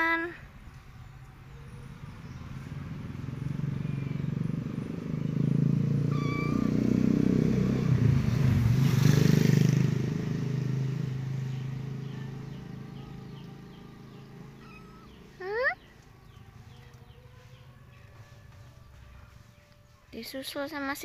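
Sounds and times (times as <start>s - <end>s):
bird chirp: 0.7s - 8.4s, 10.7s - 20.6s
motorcycle engine passing by: 1.6s - 20.1s.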